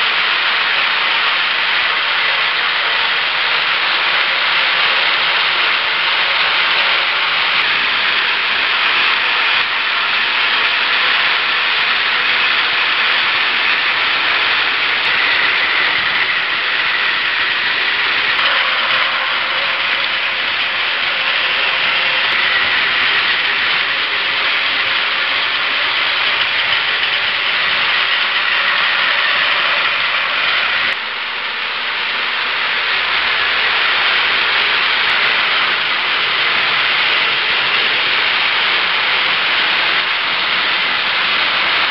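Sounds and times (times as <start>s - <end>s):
toy train motors whirring: 0.0s - 41.9s.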